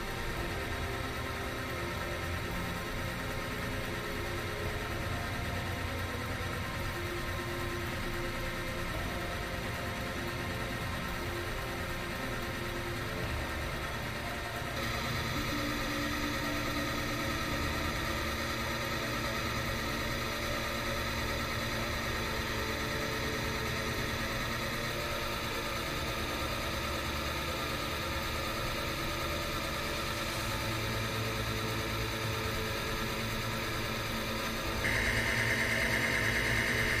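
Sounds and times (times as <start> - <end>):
machine motor humming: 0.0 - 37.0.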